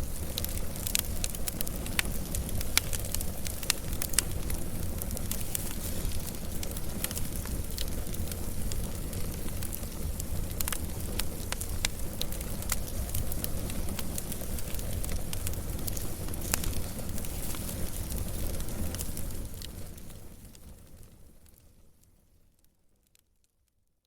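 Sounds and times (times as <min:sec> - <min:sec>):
wood fire rumbling: 0:00.0 - 0:22.0
fire crackling and popping: 0:00.0 - 0:23.7.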